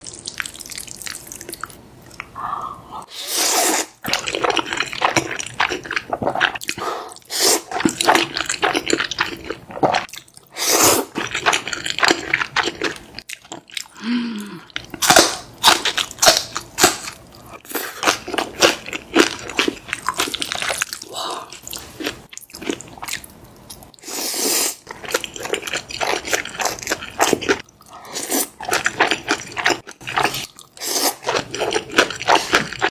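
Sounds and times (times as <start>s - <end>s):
wet chewing and crunching: 4.0s - 14.0s, 14.6s - 24.0s, 24.8s - 32.9s.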